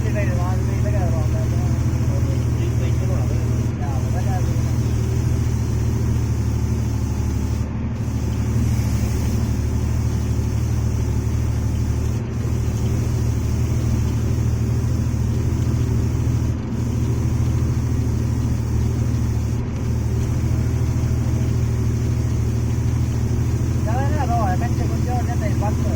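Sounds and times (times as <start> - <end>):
truck engine driving: 0.0 - 25.9.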